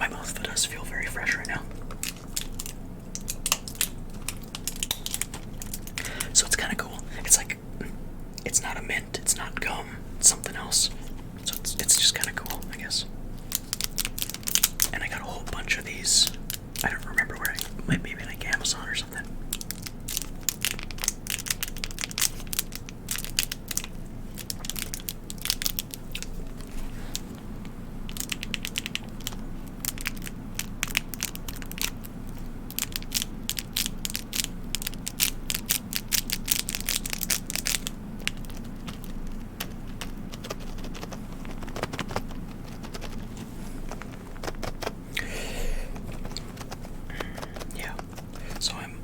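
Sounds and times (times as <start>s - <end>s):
steady low hum: 0.0s - 49.0s
packaging crinkling: 1.2s - 7.4s, 10.4s - 45.1s, 45.9s - 48.8s.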